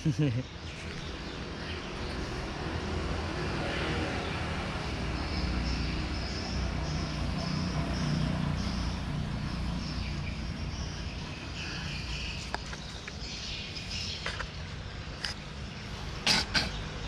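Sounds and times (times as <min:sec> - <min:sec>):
low traffic rumble: 0:00.0 - 0:17.0.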